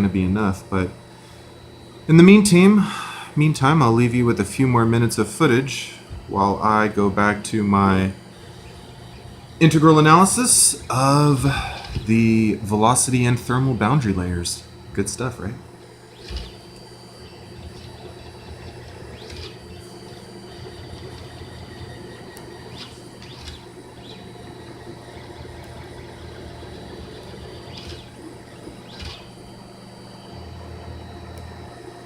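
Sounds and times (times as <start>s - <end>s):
printer motor and fan hum: 0.0s - 32.0s
whirring chirps of print head: 0.0s - 32.0s.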